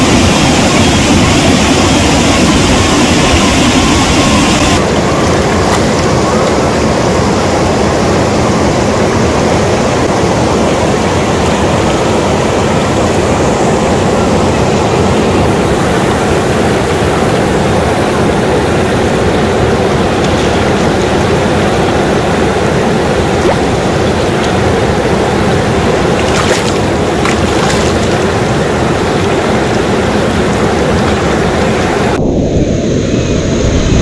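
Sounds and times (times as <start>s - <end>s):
fast shallow water rushing: 0.0s - 32.2s.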